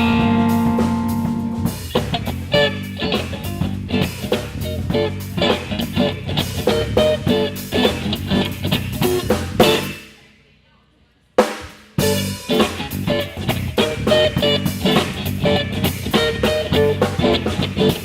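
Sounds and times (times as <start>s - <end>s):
blues band playing: 0.0s - 10.1s, 11.4s - 18.0s.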